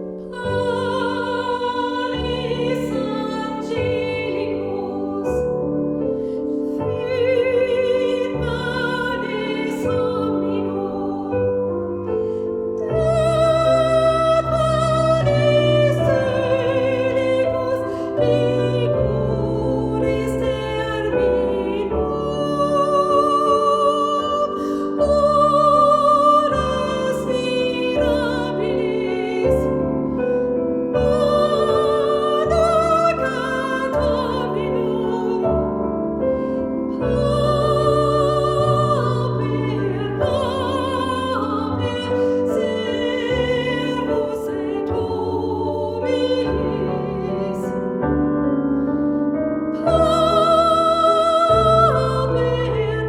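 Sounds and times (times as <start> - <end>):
choir singing: 0.0 - 6.2, 12.8 - 36.3, 36.9 - 48.0, 49.8 - 53.0
piano accompaniment: 0.0 - 53.0.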